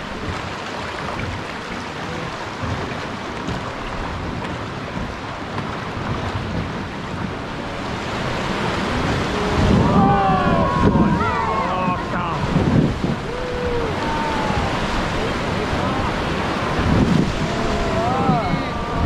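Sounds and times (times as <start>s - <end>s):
river water rushing around hull: 0.0s - 19.0s
wind on microphone: 0.0s - 19.0s.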